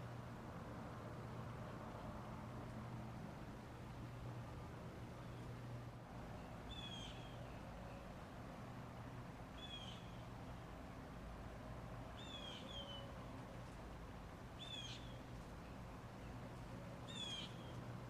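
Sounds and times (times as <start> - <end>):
ceiling fan motor hum: 0.0 - 18.0.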